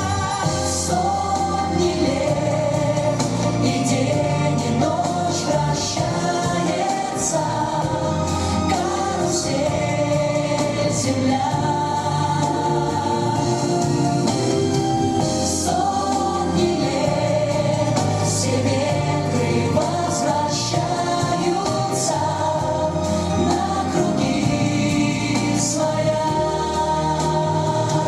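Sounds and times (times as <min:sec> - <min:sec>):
choir singing: 0:00.0 - 0:28.0
instrumental accompaniment: 0:00.0 - 0:28.0.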